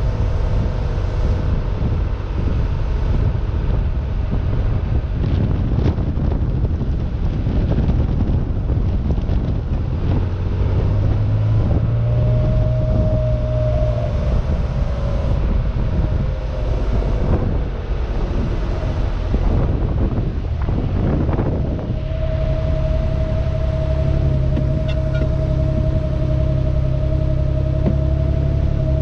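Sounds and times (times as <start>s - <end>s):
car engine cruising: 0.0s - 29.0s
wind buffeting microphone: 0.0s - 29.0s.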